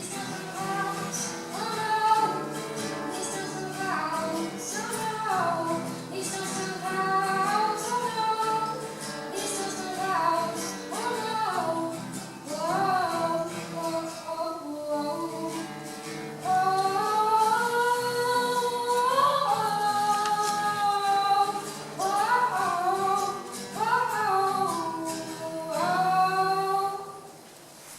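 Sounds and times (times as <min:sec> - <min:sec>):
high voice singing: 0:00.0 - 0:15.7, 0:16.4 - 0:27.3.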